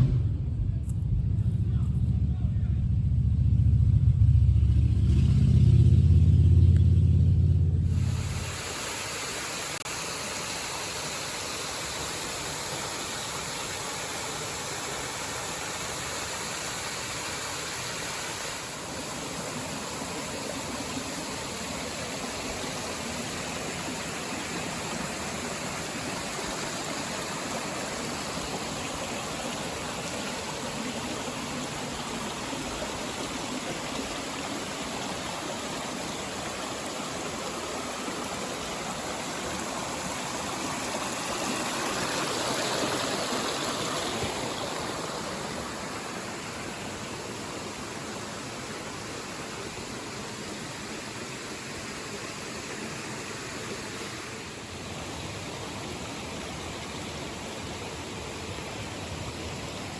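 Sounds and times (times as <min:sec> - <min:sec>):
rushing water: 0:05.4 - 0:59.9.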